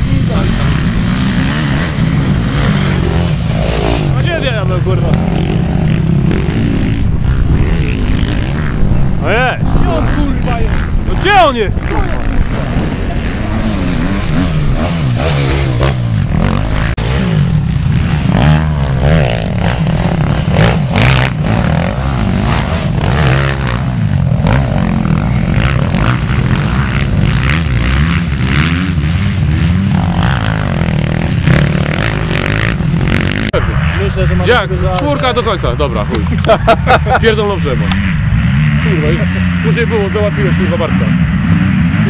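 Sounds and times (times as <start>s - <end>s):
dirt bike engines revving: 0.0s - 42.0s
dirt bike passing close: 0.0s - 42.0s.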